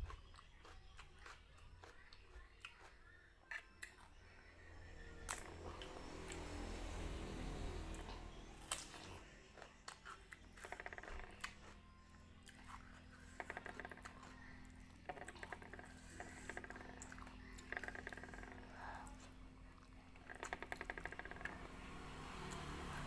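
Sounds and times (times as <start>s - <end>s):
chewing and lip-smacking: 0.0s - 6.7s, 8.6s - 21.6s.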